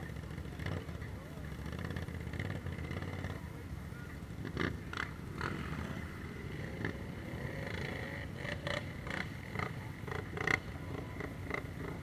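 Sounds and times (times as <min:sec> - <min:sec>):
atv engines low rumble: 0:00.0 - 0:12.0.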